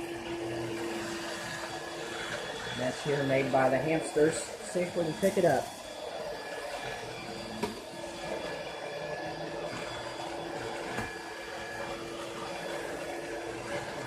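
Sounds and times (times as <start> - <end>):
stick vacuum motor hum: 0.0 - 14.0.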